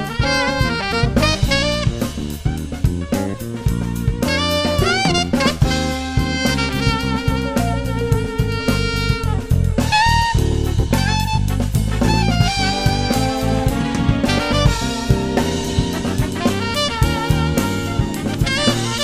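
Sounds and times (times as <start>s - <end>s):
drum kit beat: 0.0s - 19.0s
electric bass: 0.0s - 19.0s
keyboards: 0.0s - 19.0s
saxophone melody: 0.0s - 19.0s.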